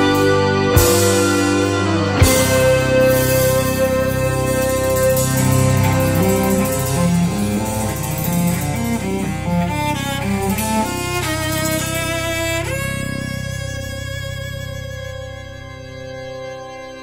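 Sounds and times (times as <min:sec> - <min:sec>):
jazz-fusion music with bowed strings: 0:00.0 - 0:17.0.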